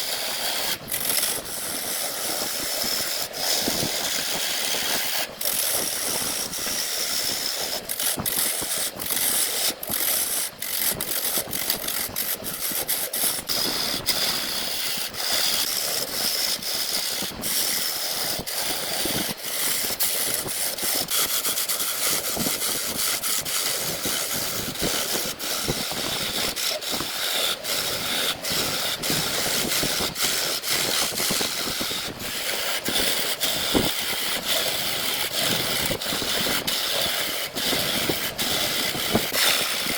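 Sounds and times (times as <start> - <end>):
power tool whirring on wood: 0.0 - 39.9.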